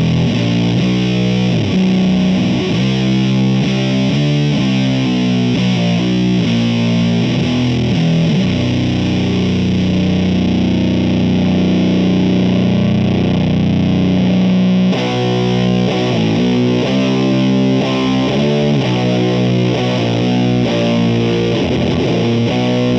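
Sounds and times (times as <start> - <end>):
fuzz electric guitar riff: 0.0 - 22.9
guitar chord ringing out: 0.0 - 22.9.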